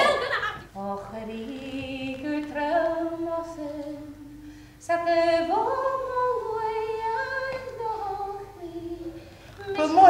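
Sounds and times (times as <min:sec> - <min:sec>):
woman singing unaccompanied: 0:00.7 - 0:10.0.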